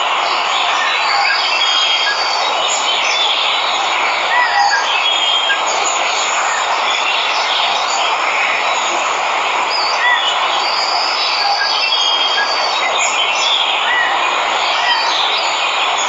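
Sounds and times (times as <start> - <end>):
waterfall rushing: 0.0 - 16.0
birds chirping and whistling: 0.7 - 8.0, 9.7 - 16.0.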